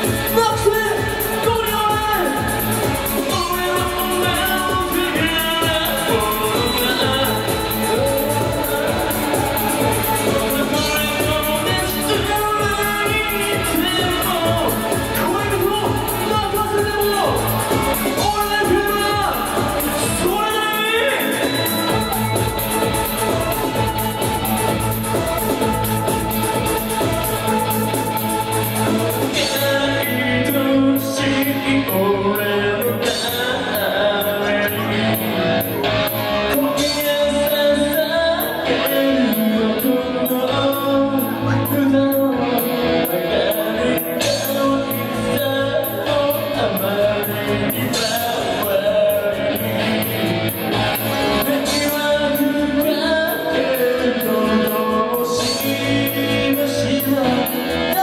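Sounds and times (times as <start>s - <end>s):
live rock band playing: 0.0s - 58.0s
person singing: 0.0s - 58.0s.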